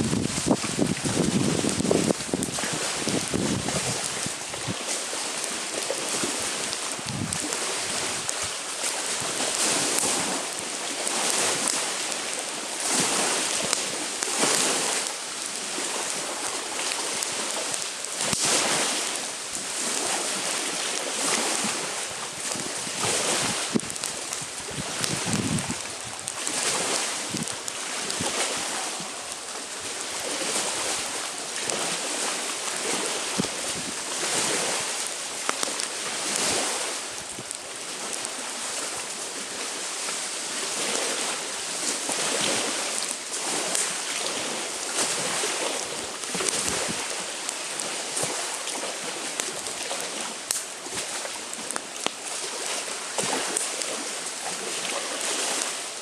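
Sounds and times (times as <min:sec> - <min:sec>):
campfire crackling and popping: 0:00.0 - 0:56.0
small waves washing onto shore: 0:00.0 - 0:56.0
wind: 0:00.0 - 0:56.0.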